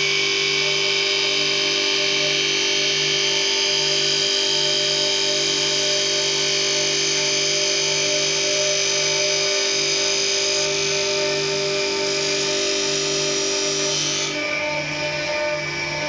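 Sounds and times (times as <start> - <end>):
lathe machine whine: 0.0 - 16.0.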